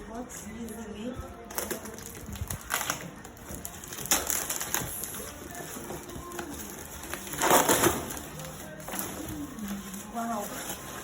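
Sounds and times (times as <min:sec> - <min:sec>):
packaging crackling and tearing: 0:01.4 - 0:11.0.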